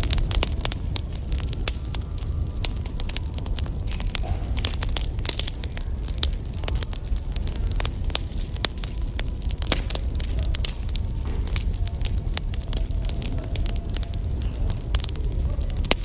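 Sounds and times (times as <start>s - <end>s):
low rumble: 0.0s - 16.0s
wood fire crackling: 0.0s - 16.0s.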